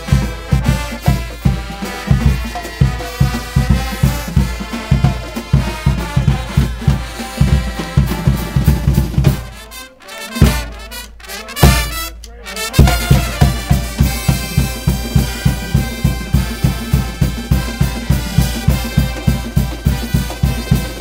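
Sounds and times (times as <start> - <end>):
snare and bass drums: 0.0 - 9.7, 10.4 - 21.0
brass instruments playing: 0.0 - 21.0.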